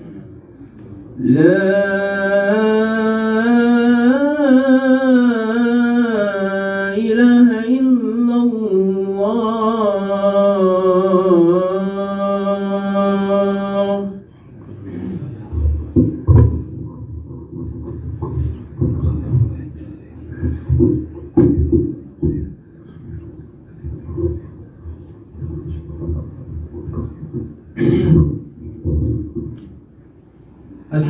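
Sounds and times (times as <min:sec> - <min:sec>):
man chanting call to prayer: 0:01.2 - 0:27.2.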